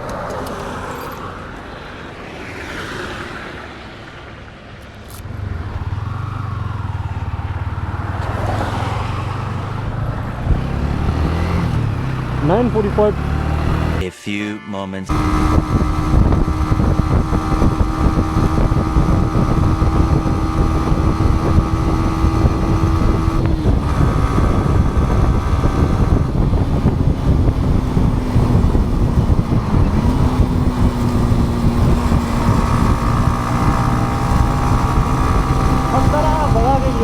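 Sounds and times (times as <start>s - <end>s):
motorcycle engine running: 5.1s - 14.0s, 15.1s - 37.0s
wind rushing over microphone: 5.2s - 14.0s, 15.1s - 37.0s.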